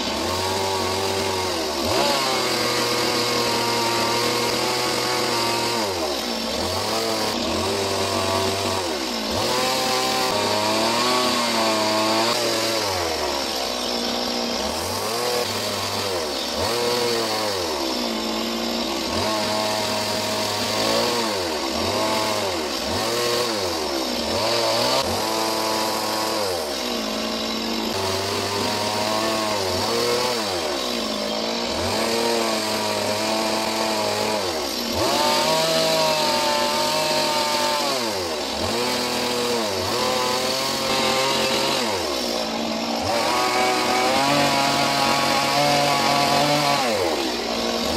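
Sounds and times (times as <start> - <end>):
chainsaw revving cutting wood: 0.0 - 47.9.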